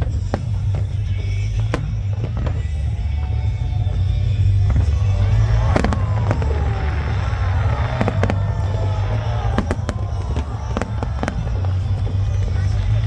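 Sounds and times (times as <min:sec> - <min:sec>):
fireworks bursting bangs: 0:00.0 - 0:13.0
low rumble: 0:00.0 - 0:13.0
music: 0:00.0 - 0:13.0.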